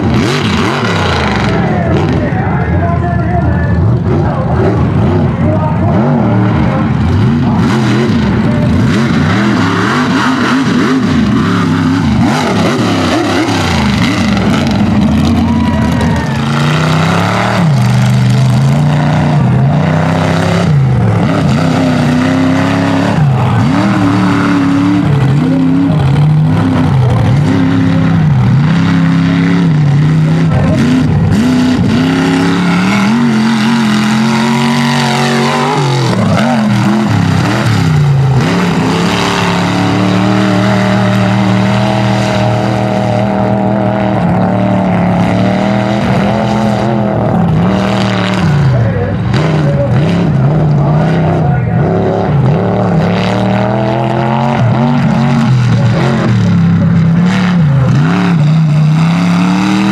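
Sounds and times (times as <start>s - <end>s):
truck engines revving: 0.0s - 59.9s.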